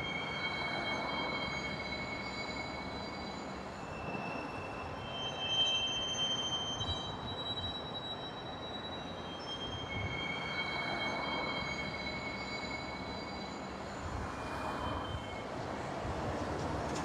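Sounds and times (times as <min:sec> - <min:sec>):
high-pitched wheel squeals: 0:00.0 - 0:15.5
train rumbling on track: 0:00.0 - 0:17.0.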